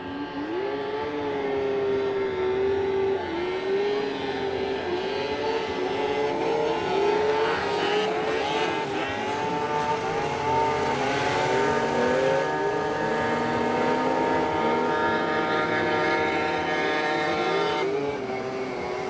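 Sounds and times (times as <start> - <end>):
snowmobile engines revving: 0.0 - 19.0.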